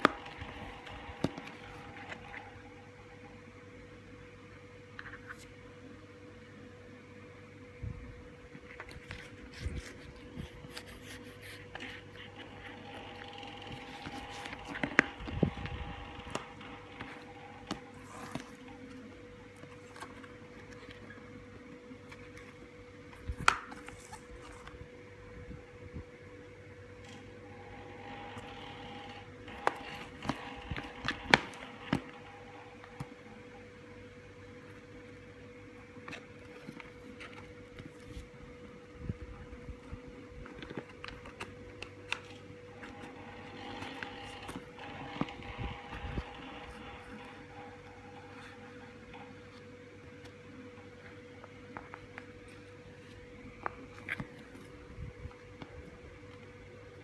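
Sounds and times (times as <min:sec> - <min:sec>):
faint hum: 0:00.0 - 0:57.0.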